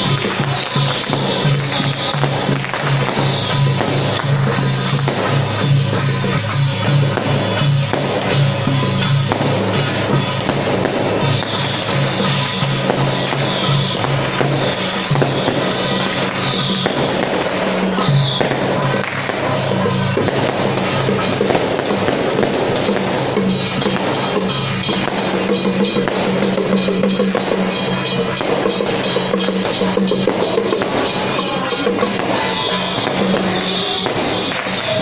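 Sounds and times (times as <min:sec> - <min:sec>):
firecrackers crackling: 0:00.0 - 0:35.0
procession music with drums: 0:00.0 - 0:35.0.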